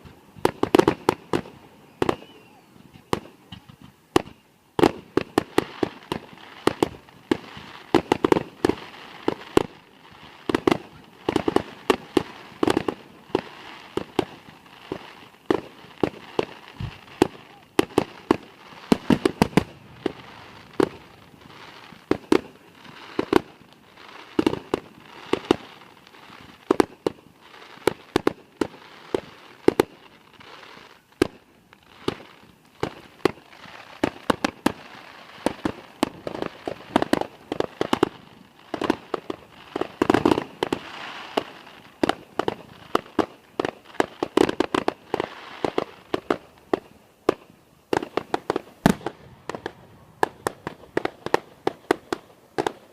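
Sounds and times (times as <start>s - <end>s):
fireworks bangs and pops: 0.0s - 52.9s.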